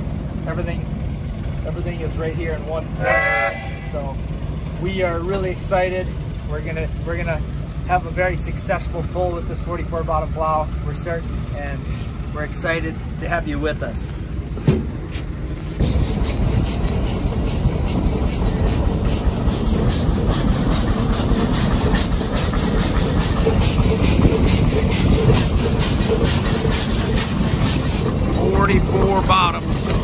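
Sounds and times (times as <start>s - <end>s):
low rumble and steam hiss: 0.0s - 30.0s
steam engine exhaust chuffing: 0.0s - 30.0s.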